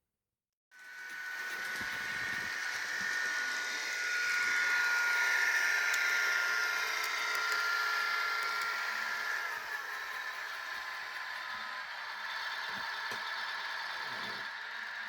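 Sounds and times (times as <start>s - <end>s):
model train whine and hiss: 0.8s - 15.0s.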